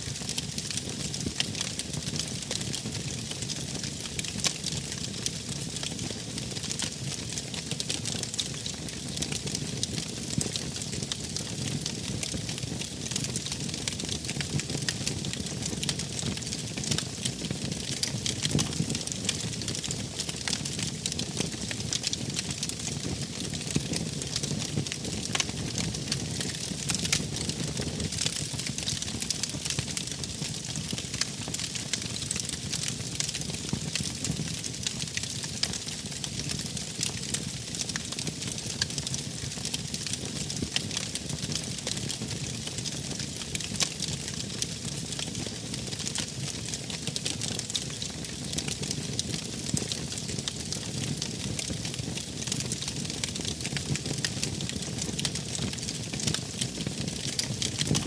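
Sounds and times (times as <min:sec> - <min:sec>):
low rumble of burning: 0:00.0 - 0:58.0
wood fire crackling and popping: 0:00.0 - 0:58.0.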